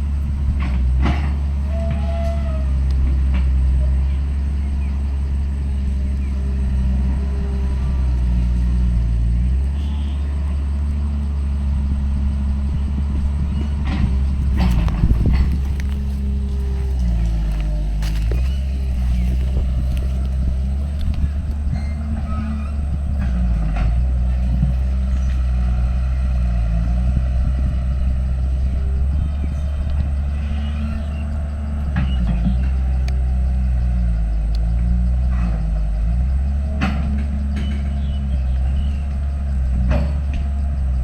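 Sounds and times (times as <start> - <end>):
heavy machinery diesel engine: 0.0 - 41.0.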